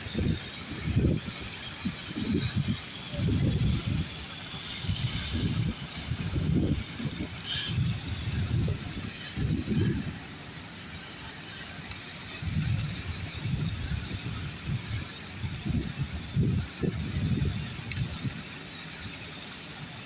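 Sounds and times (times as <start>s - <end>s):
wind buffeting microphone: 0.0s - 10.4s, 12.3s - 19.1s
outdoor hiss: 0.0s - 20.0s.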